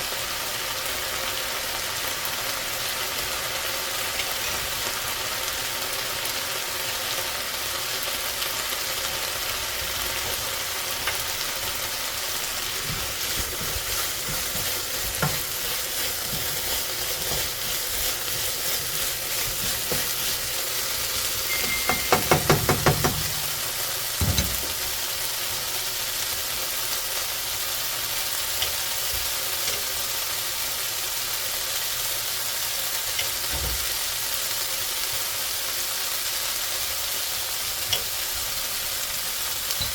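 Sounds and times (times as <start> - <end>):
fried rice sizzling in a pan: 0.0 - 39.9.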